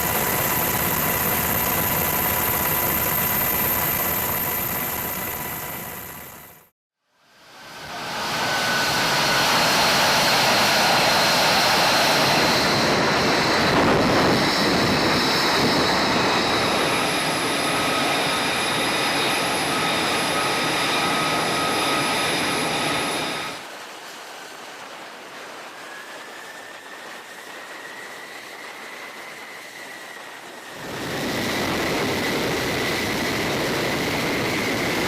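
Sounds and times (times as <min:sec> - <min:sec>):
jet engine roaring and whining: 0:00.0 - 0:06.7, 0:07.3 - 0:35.0.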